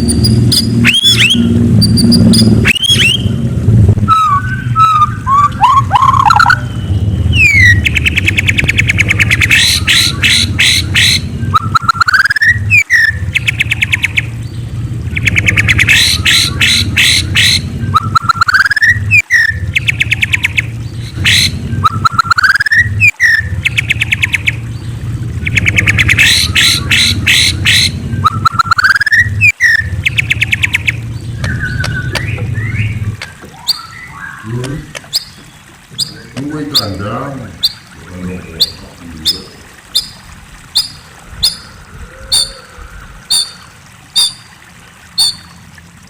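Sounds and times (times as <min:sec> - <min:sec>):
songbird singing: 0:00.0 - 0:45.7
steady low hum: 0:00.0 - 0:46.0.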